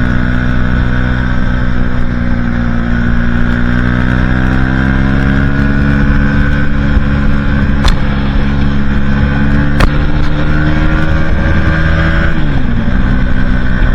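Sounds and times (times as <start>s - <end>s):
motorcycle engine high revs: 0.0s - 13.9s.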